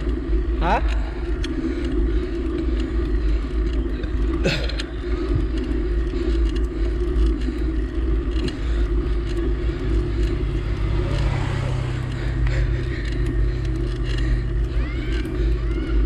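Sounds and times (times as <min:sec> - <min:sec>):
engine running with low rumble: 0:00.0 - 0:16.0
steady hum: 0:00.0 - 0:16.0.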